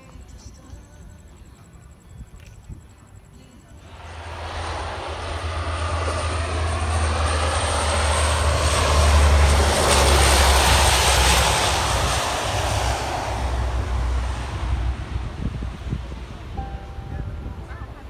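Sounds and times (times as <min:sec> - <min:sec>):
aircraft engine flying past: 0:02.7 - 0:18.0.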